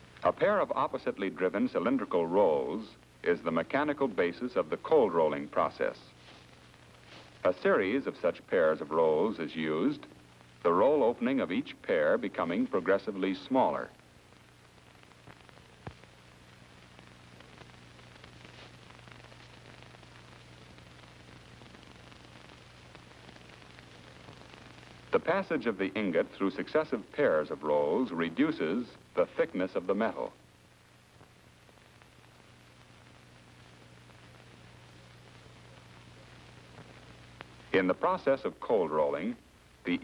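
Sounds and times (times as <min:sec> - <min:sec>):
film soundtrack hiss and crackle: 0:00.0 - 0:40.0
low steady hum: 0:00.0 - 0:40.0.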